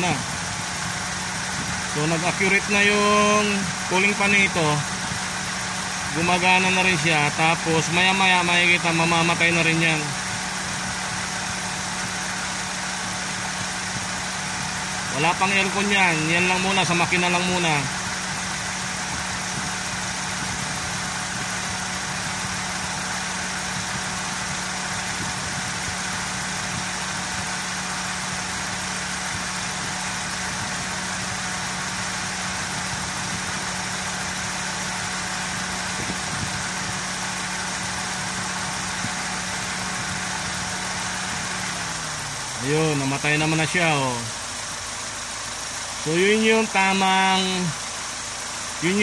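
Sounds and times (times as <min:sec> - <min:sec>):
car engine idling: 0:00.0 - 0:49.0
radiator cooling fan running: 0:00.0 - 0:49.0.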